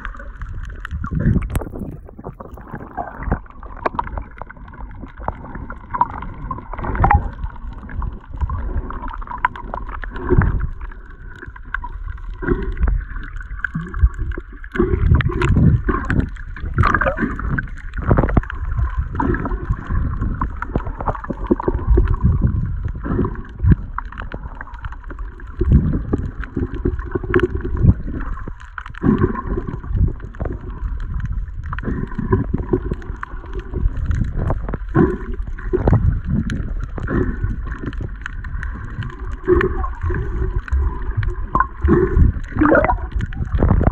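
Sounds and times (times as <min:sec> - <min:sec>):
underwater sloshing and thumps: 0:00.0 - 0:43.9.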